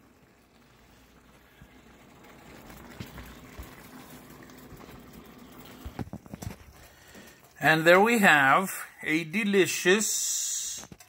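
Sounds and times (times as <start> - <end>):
gravy bubbling: 0.0 - 11.0.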